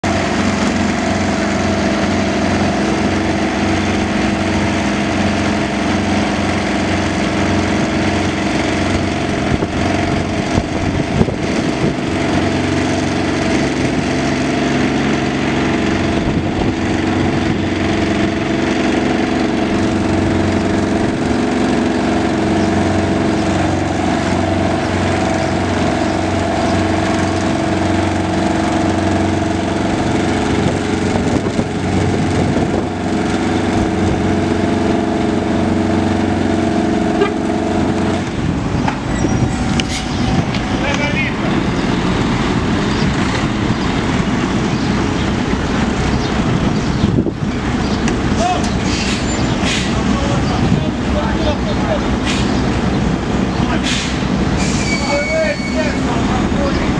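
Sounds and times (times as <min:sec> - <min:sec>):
machinery engine running: 0:00.0 - 0:56.9.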